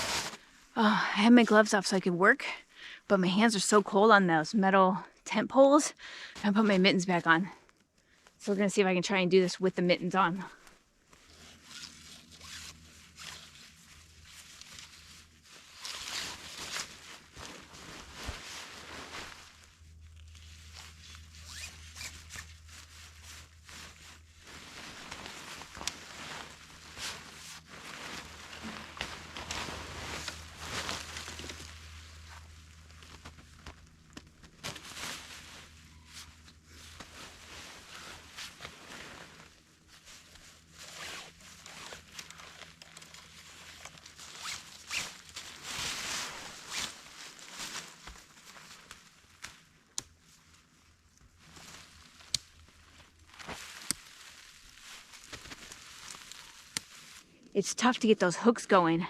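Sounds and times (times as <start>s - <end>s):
tent fabric rustling and scraping: 0.0s - 1.7s, 10.2s - 57.9s.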